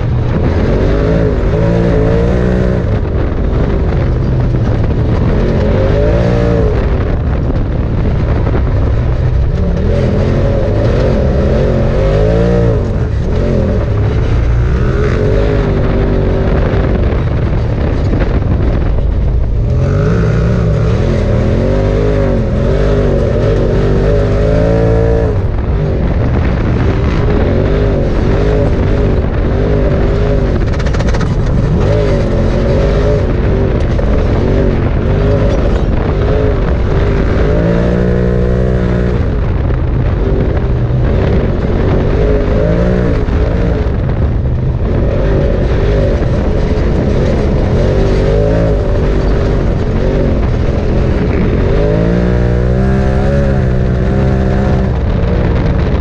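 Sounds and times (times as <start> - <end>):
low rumble: 0.0 - 56.0
utv engine revving: 0.0 - 56.0.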